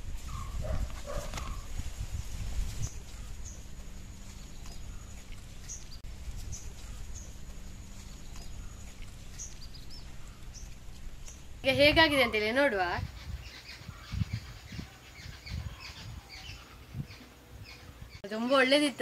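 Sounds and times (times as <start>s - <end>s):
small birds chirping: 0.0s - 19.0s
low background hum: 2.9s - 19.0s.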